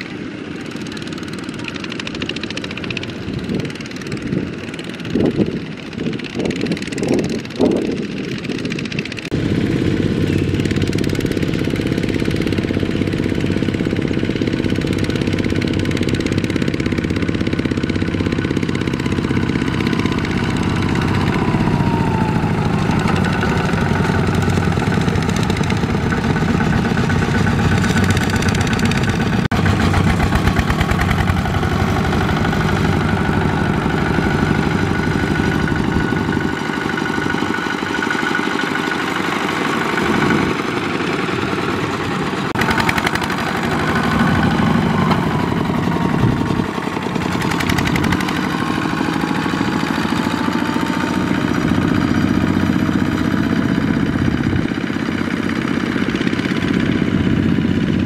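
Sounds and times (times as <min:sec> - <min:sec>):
single-cylinder diesel engine: 0:00.0 - 0:58.0.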